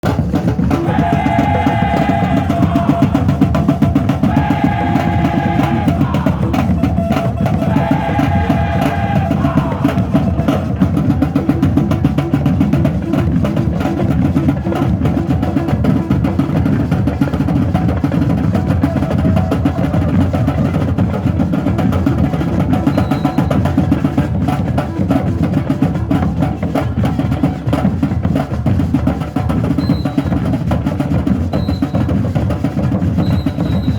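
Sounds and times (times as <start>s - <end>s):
drums playing fast beat: 0.0s - 33.9s.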